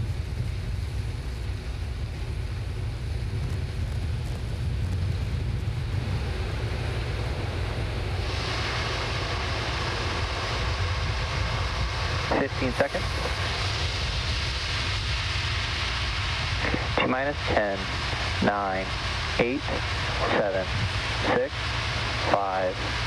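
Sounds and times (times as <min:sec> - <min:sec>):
steady hiss: 0:00.0 - 0:23.0
wind rumbling on microphone: 0:00.0 - 0:23.0.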